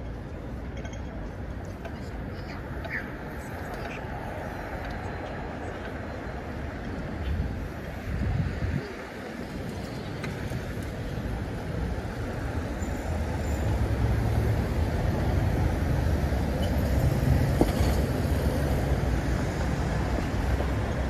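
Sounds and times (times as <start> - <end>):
road traffic noise: 0.0 - 21.0
vehicle engine rumble: 0.0 - 21.0.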